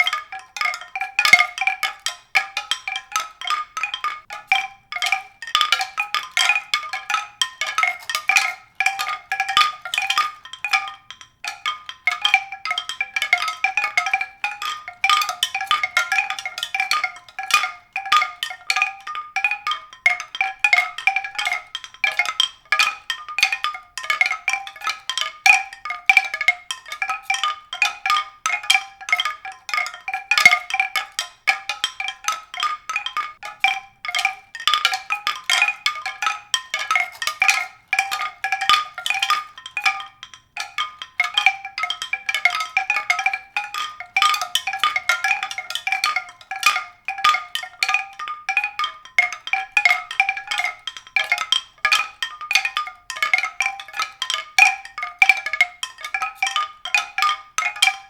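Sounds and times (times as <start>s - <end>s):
tuned percussion strikes: 0.0s - 58.0s.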